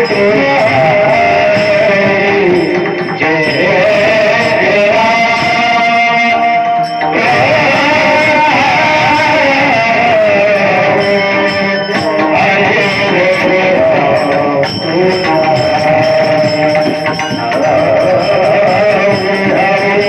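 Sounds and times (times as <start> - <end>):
devotional song with instruments: 0.0 - 20.0.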